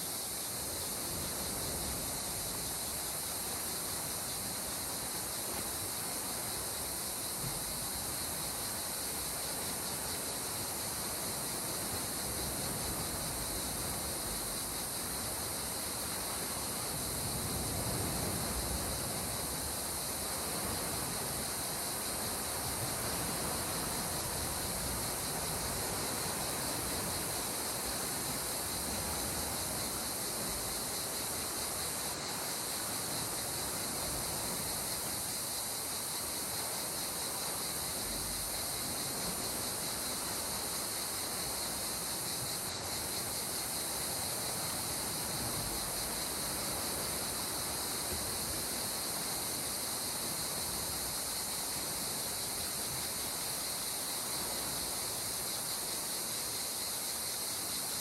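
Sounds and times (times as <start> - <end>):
calm sea water hiss: 0.0 - 58.0.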